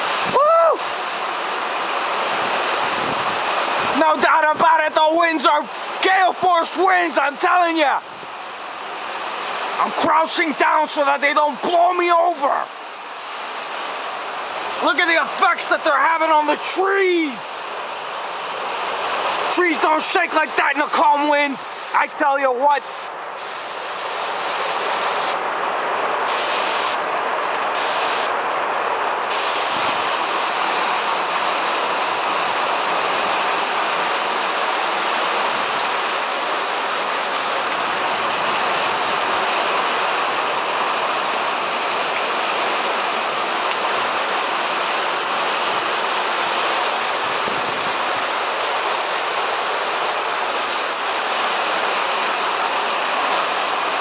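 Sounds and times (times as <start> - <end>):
gale-force wind: 0.0 - 54.0
heavy rain pouring: 0.0 - 54.0.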